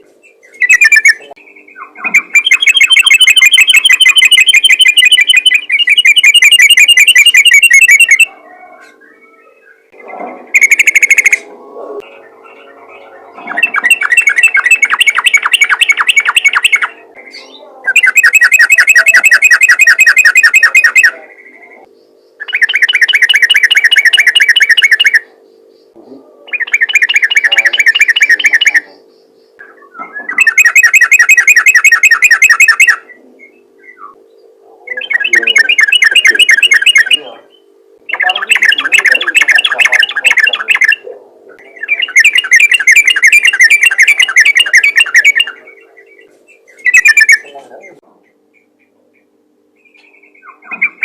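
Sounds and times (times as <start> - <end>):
bird chattering song: 0.0 - 51.0
faint steady hum: 0.0 - 51.0.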